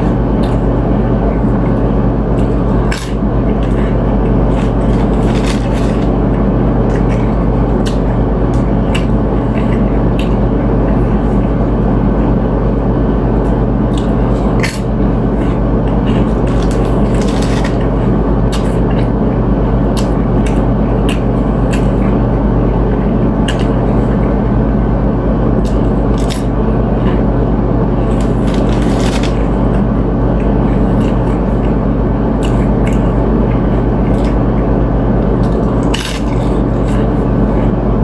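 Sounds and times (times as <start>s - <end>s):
crunchy chewing: 0.0s - 12.3s, 13.2s - 24.6s, 25.5s - 38.0s
steady low hum: 0.0s - 38.0s.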